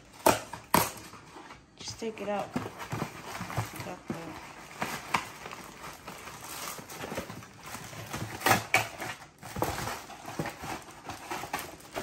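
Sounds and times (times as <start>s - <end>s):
cardboard flaps rustling and scraping: 0.2s - 12.0s.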